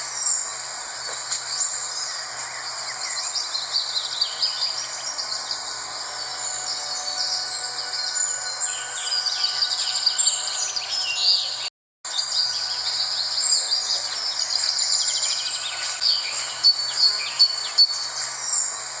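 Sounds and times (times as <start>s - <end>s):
birds chirping and trilling: 0.0s - 19.0s
insect drone: 0.0s - 19.0s.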